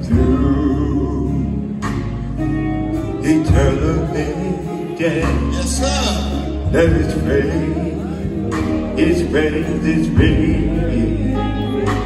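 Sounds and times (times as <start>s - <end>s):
electric bass and guitar: 0.0s - 12.0s
man singing: 0.0s - 12.0s.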